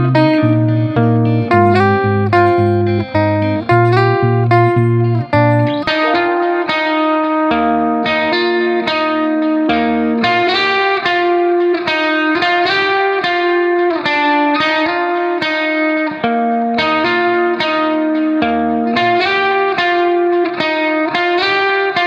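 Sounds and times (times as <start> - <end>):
plucked guitar notes: 0.0 - 22.0.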